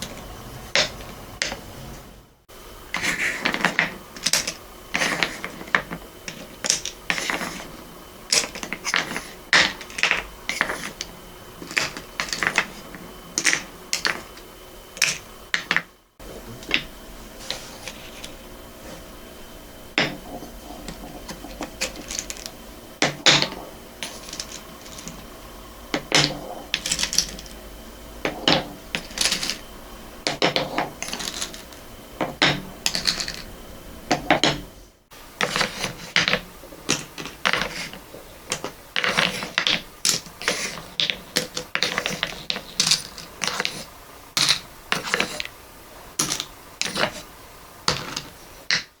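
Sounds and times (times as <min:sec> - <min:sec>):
wooden balls clattering: 0:00.0 - 0:01.7, 0:02.9 - 0:34.7, 0:35.3 - 0:45.6, 0:46.2 - 0:49.0.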